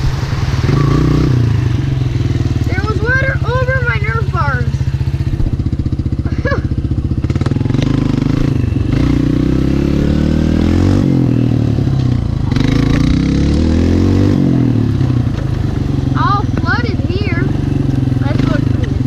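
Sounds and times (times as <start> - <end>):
quad engine revving: 0.0 - 19.0.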